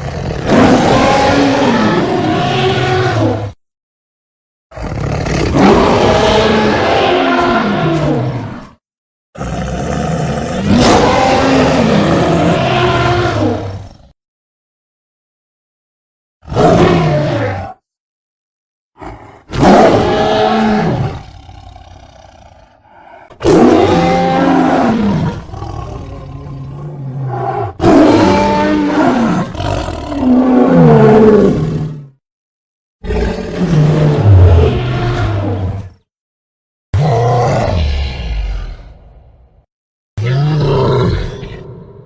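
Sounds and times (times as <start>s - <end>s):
creature roars: 0.0s - 3.6s, 4.7s - 8.8s, 9.4s - 14.2s, 16.4s - 17.8s, 19.0s - 32.1s, 33.0s - 36.1s, 37.0s - 39.6s, 40.2s - 42.0s.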